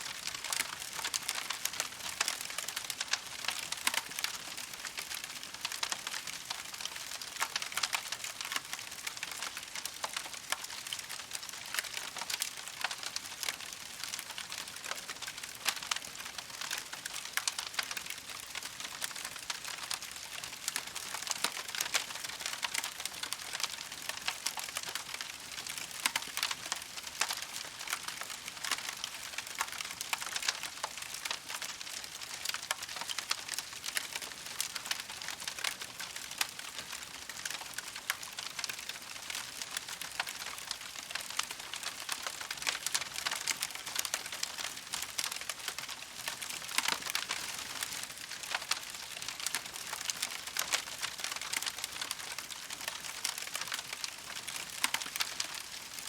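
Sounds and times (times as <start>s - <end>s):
campfire crackling: 0.1s - 56.0s.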